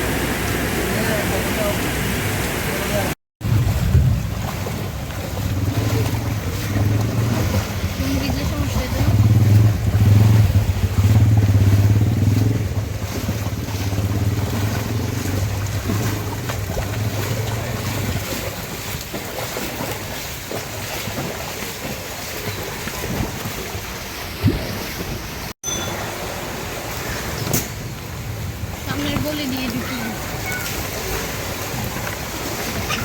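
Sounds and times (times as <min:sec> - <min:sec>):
boat engine running: 0:00.0 - 0:33.0
water rushing: 0:00.0 - 0:33.0
wind: 0:00.0 - 0:33.0.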